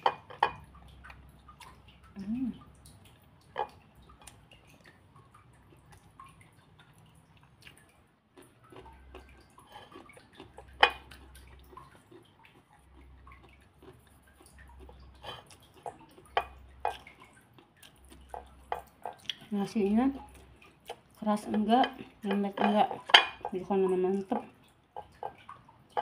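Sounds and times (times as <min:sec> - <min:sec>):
wet chewing and lip smacks: 0:00.2 - 0:23.6.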